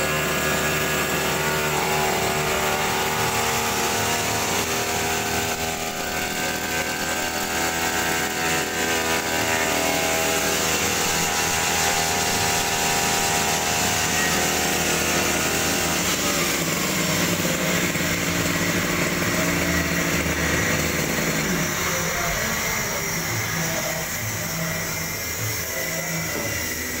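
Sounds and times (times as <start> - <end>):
brush cutter engine running: 0.0 - 27.0.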